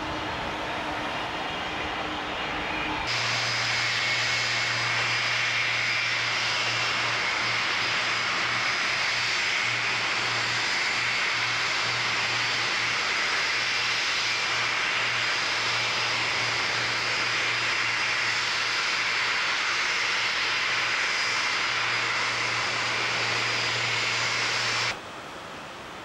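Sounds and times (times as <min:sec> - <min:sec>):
jet airliner taxiing: 0:00.0 - 0:26.0.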